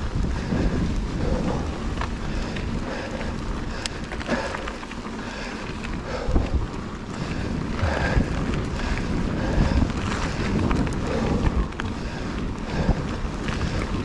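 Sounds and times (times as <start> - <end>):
bike clicks and rattles: 0.0 - 14.0
bike tyres rolling on dirt: 0.0 - 14.0
wind buffeting microphone: 0.0 - 14.0.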